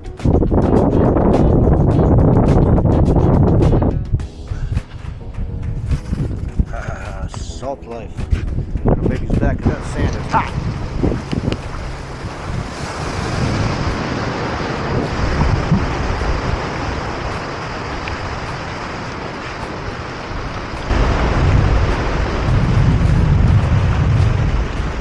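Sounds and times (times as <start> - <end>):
ocean surf: 0.0 - 25.0
wind buffeting microphone: 0.0 - 25.0.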